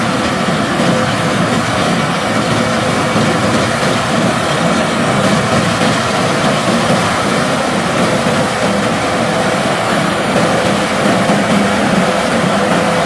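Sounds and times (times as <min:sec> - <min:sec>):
combine harvester drone: 0:00.0 - 0:13.0.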